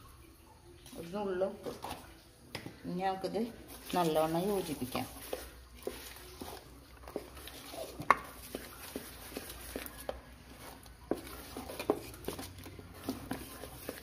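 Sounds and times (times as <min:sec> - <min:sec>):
spoon stirring thick batter: 0:00.2 - 0:14.0.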